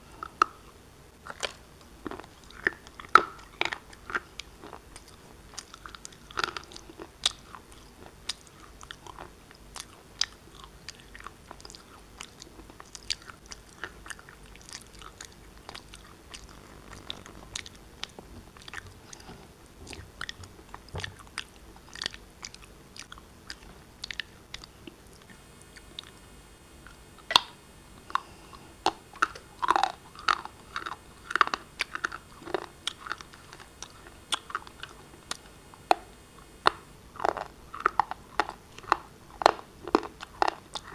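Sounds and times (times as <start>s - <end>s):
person chewing shale crunches: 1.2s - 26.2s, 26.8s - 40.9s.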